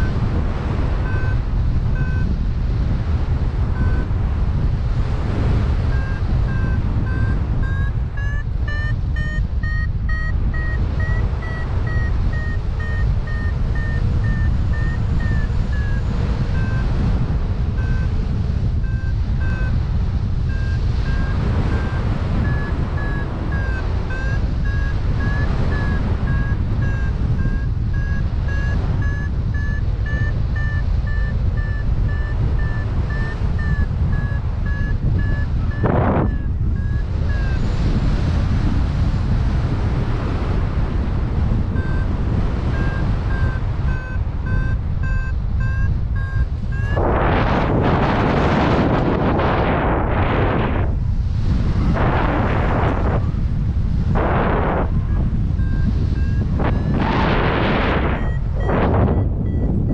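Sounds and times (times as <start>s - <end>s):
variometer beeping: 0.0s - 59.9s
wind rumble on microphone: 0.0s - 59.9s.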